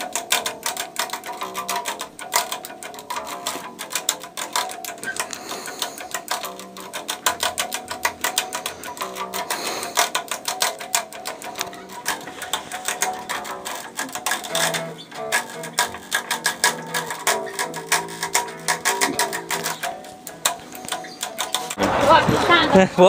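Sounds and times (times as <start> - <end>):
fast clicking strokes: 0.0 - 22.6.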